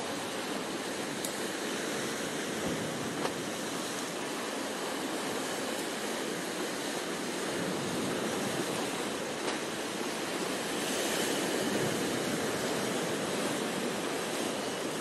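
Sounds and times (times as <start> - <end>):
surf washing around rocks: 0.0 - 15.0.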